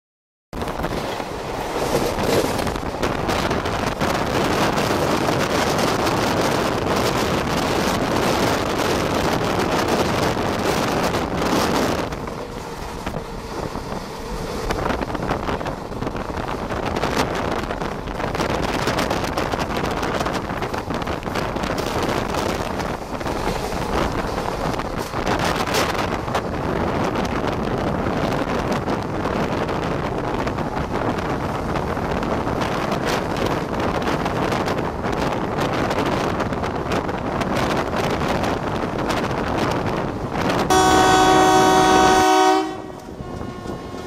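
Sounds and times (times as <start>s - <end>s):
wheels rumbling on rails: 0.5s - 44.0s
wind buffeting microphone: 0.5s - 44.0s.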